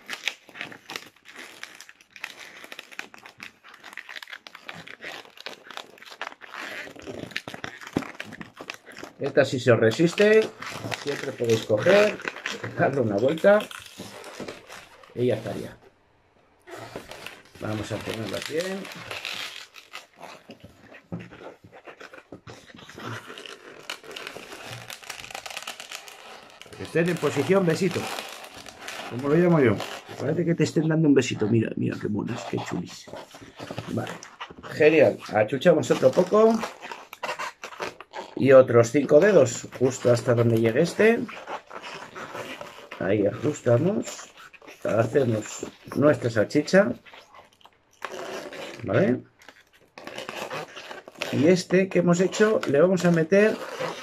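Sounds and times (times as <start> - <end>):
balloon rubber rubbing and crackling: 0.0 - 54.0.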